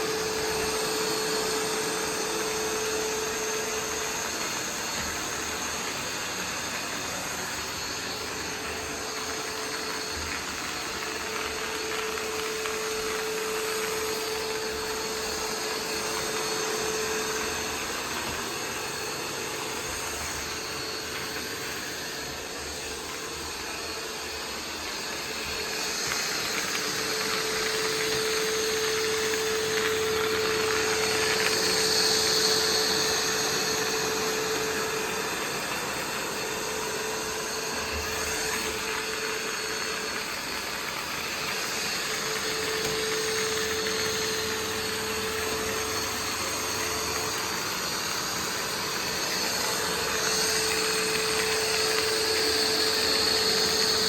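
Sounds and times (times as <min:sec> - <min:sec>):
robot vacuum whirring: 0:00.0 - 0:54.0.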